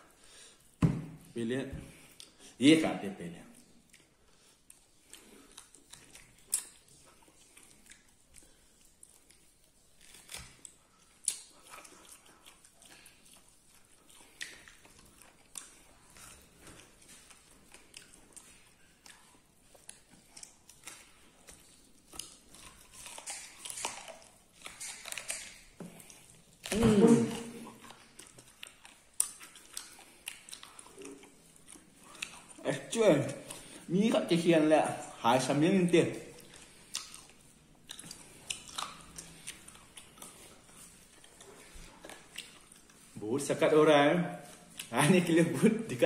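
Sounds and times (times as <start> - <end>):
man chewing food: 0.0 - 2.6, 3.4 - 45.9
eating smacks and clicks: 3.5 - 43.6.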